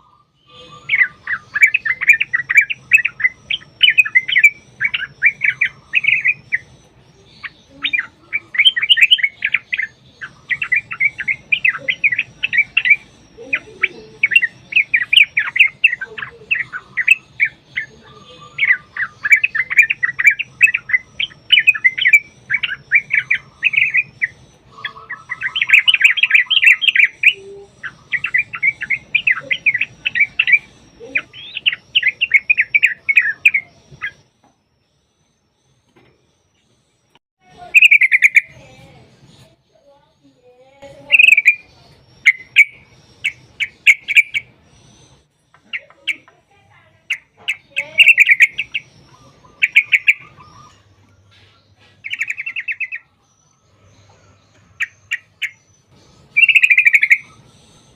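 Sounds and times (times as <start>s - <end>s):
bulbuls singing chattering runs: 0.0s - 57.9s.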